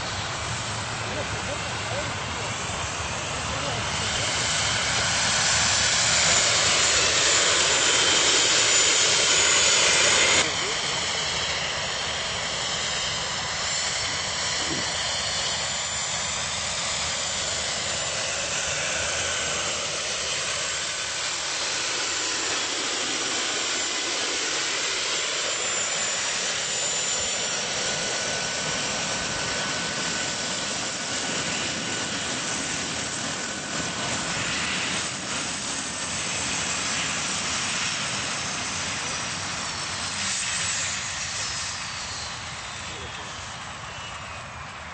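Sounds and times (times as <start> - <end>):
helicopter rotor spinning: 0.0 - 44.0
model jet turbine whine: 0.0 - 44.9.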